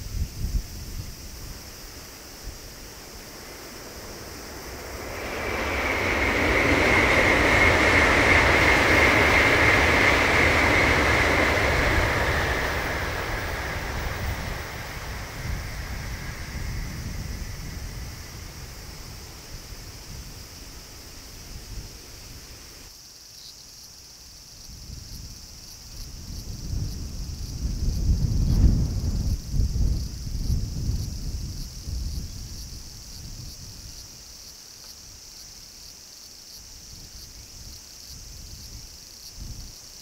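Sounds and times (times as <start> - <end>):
high-speed train passing: 0.0 - 22.9, 24.7 - 40.0.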